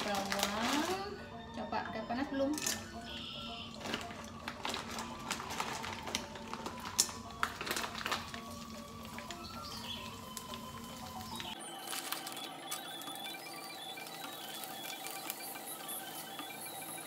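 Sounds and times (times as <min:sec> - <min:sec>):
background music: 0:00.0 - 0:17.0
crackers frying in hot oil: 0:02.6 - 0:17.0.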